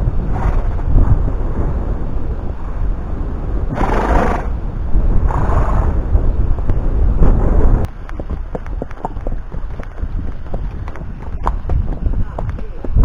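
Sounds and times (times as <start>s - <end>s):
wind buffeting a microphone: 0.0s - 13.0s.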